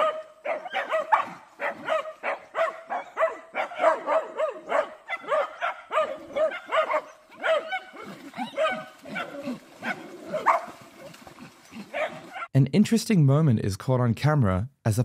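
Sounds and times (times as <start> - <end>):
dogs barking rapidly: 0.0 - 12.5.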